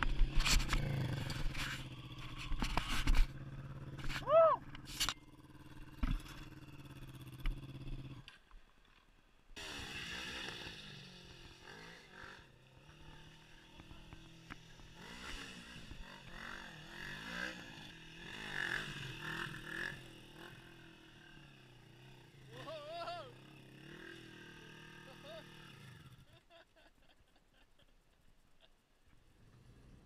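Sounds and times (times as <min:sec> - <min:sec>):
motorcycle engine idling and revving: 0:00.0 - 0:26.5, 0:29.1 - 0:30.0.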